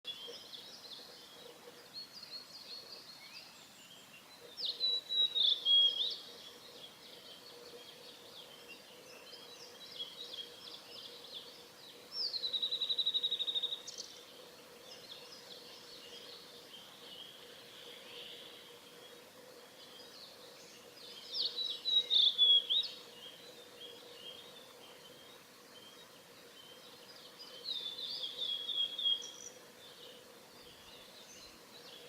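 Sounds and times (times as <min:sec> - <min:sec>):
faint chirps of other birds: 0:00.1 - 0:32.0.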